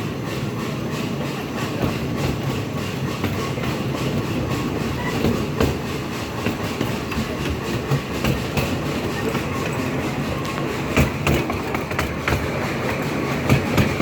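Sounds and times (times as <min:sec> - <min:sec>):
train cars rumbling on track: 0:00.0 - 0:14.0
wheels clacking over rail joints: 0:00.8 - 0:14.0.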